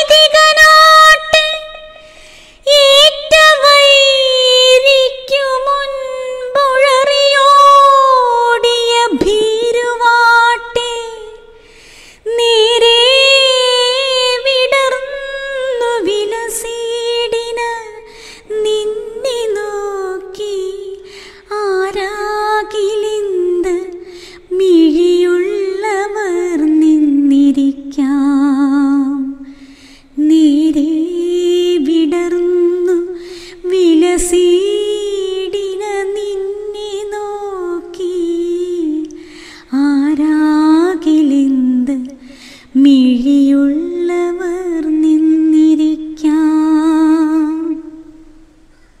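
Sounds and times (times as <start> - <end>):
woman singing unaccompanied: 0.0 - 11.6, 12.2 - 29.6, 30.2 - 48.3.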